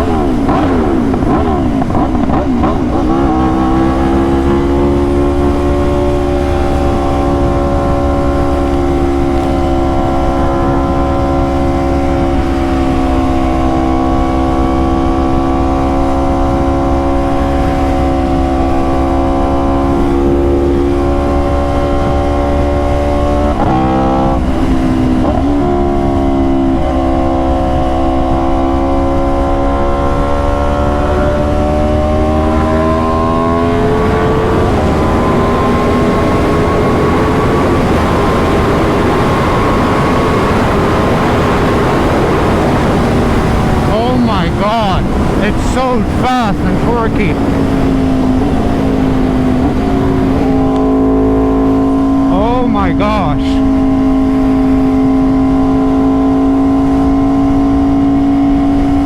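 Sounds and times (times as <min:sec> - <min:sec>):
wind rushing over microphone: 0:00.0 - 0:52.4, 0:53.1 - 0:59.0.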